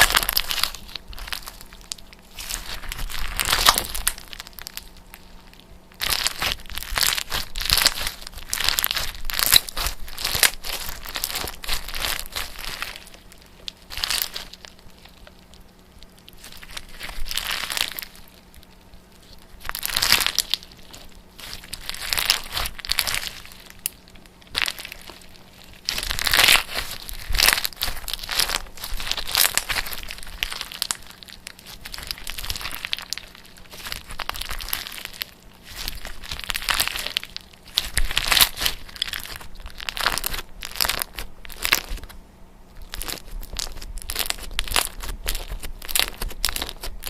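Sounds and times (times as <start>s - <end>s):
crinkling and rustling: 0.0s - 47.0s.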